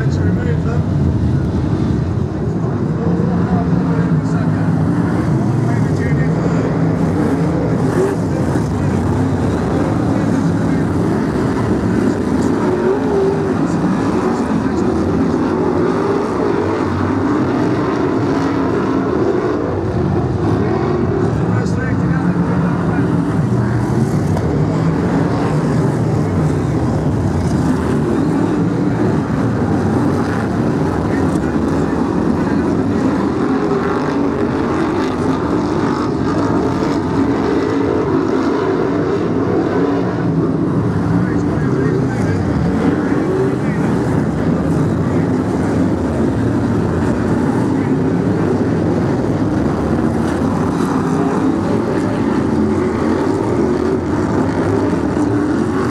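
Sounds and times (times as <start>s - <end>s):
racing car engines roaring: 0.0s - 55.9s.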